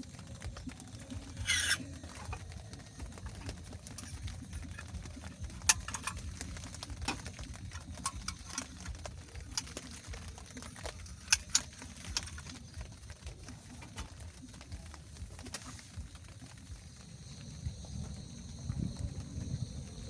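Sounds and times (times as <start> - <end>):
low rumble of rain: 0.0 - 20.0
raindrops pattering: 0.0 - 20.0.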